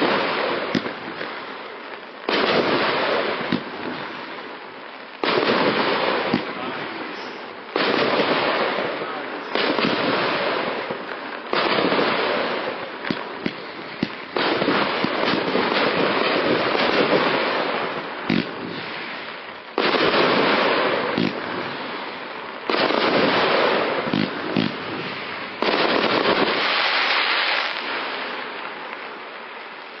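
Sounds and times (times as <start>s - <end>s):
firework pops: 0.0s - 29.1s
firework crackling hiss: 0.0s - 30.0s.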